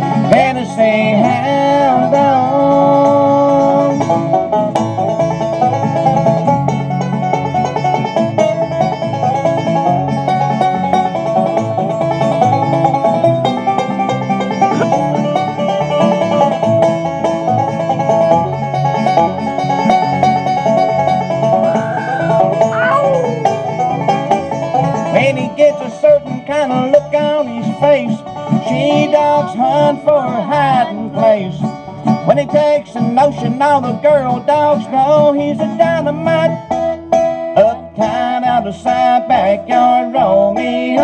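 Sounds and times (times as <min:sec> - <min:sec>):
acoustic guitar: 0:00.0 - 0:41.0
banjo picking fast runs: 0:00.0 - 0:41.0
upright bass: 0:00.0 - 0:41.0.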